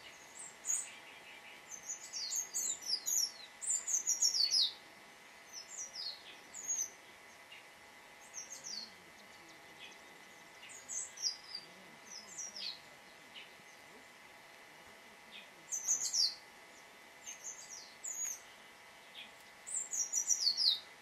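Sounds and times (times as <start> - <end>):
songbird chirping: 0.0 - 14.3, 15.2 - 21.0.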